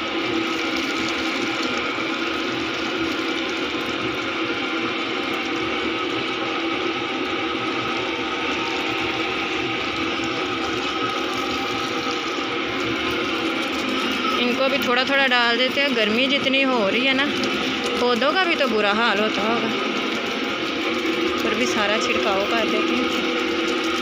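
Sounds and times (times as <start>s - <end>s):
mechanical hum: 0.0s - 24.0s
water running: 0.0s - 24.0s.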